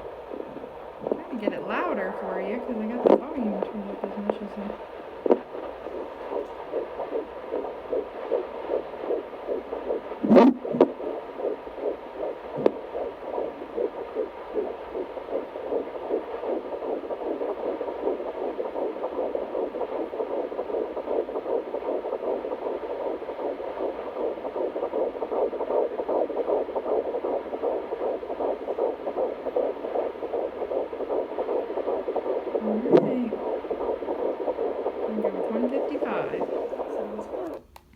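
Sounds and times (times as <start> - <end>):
fetal heartbeat whooshing pulses: 0.0 - 37.7.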